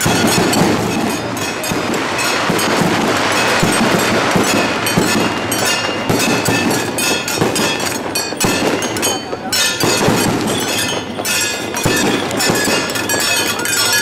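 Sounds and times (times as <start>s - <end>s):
cymbals and gongs clashing: 0.0s - 14.0s.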